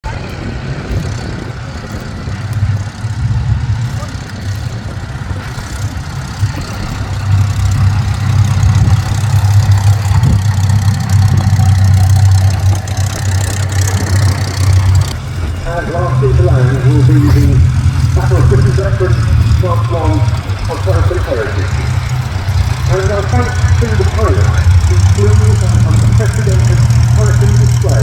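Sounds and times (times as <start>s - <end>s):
aircraft engines droning: 0.0s - 28.0s.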